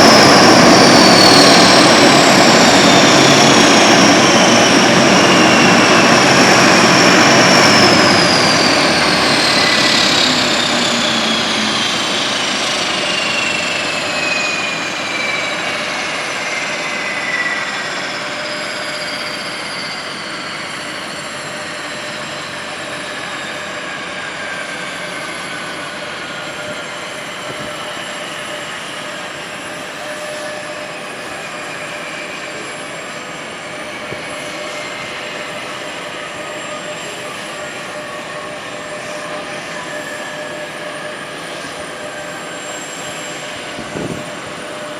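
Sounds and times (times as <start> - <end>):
turboprop aircraft passing: 0.0 - 44.9.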